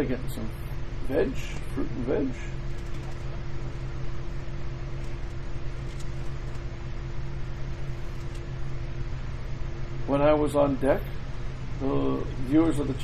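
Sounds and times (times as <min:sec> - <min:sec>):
constant tone: 0:00.0 - 0:13.0
low mechanical hum: 0:00.0 - 0:13.0.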